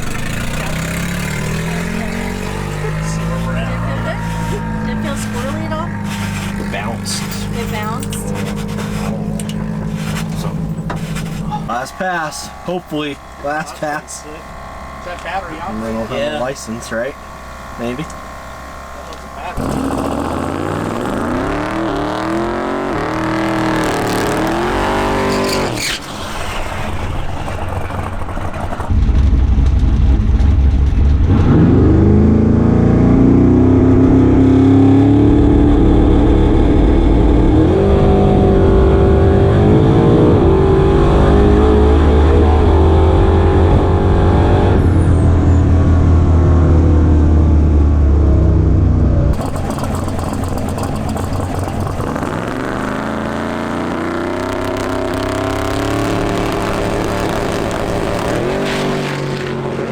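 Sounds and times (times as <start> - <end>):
drag car accelerating through gears: 0.0 - 59.9
drag car engine revving: 0.0 - 59.9.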